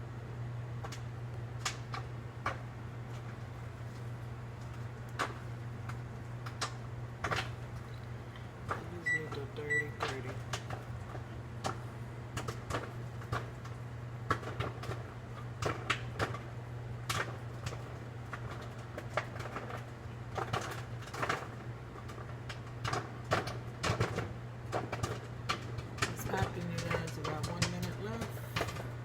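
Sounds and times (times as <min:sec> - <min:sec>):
microwave oven humming: 0:00.0 - 0:29.0
popcorn popping: 0:00.8 - 0:29.0.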